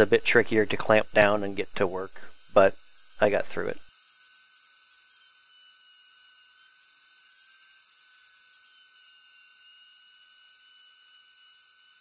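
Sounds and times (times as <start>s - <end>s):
thin high-pitched whine: 0.0s - 12.0s.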